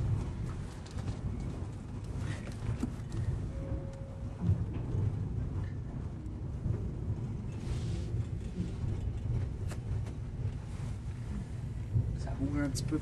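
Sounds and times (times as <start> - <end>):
rail car rumbling over track: 0.0 - 13.0.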